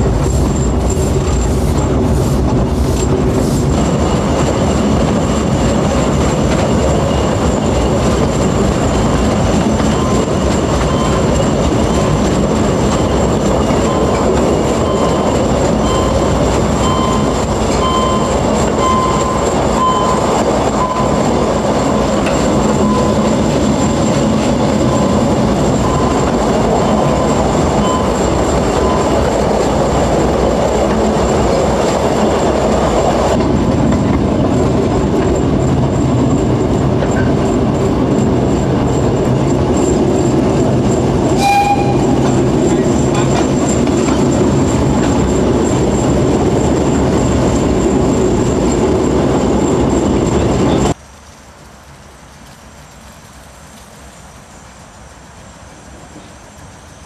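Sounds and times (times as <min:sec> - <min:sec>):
train wheels rolling on track: 0:00.0 - 0:51.1, 0:51.8 - 0:57.0.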